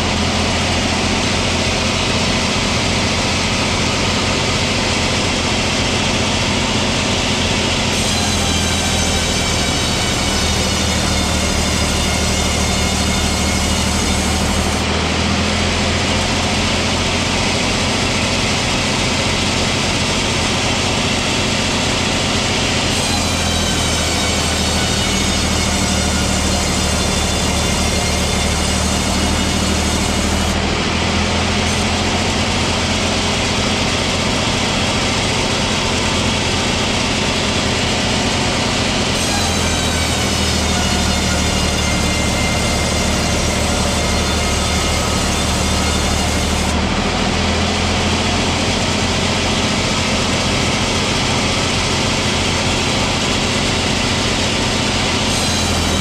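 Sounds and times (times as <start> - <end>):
sawmill saw cutting timber: 0.0 - 56.0.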